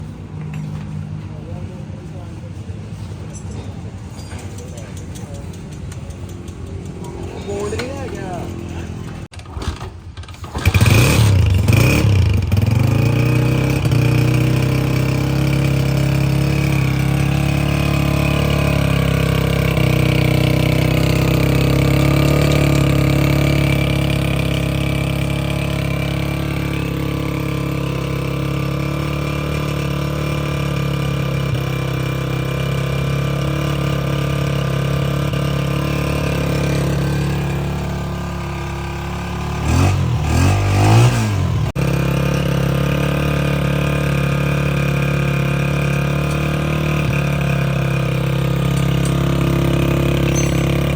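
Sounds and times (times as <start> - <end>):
motorcycle engine starting and idling: 0.0 - 50.9.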